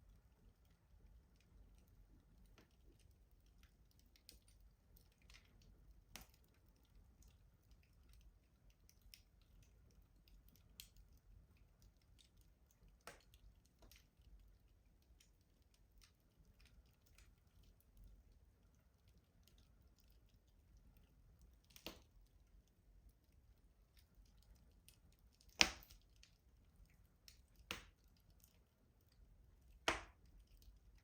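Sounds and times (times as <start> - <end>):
wood fire crackling in a stove: 0.0 - 31.0.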